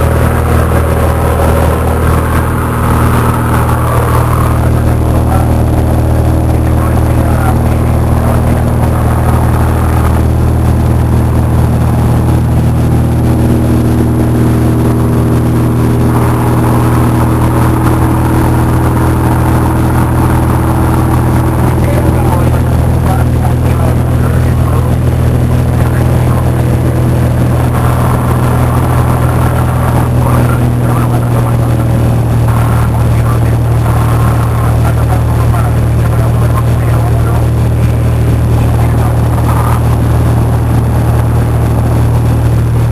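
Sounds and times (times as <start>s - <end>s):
airplane engine and propeller drone: 0.0s - 42.9s.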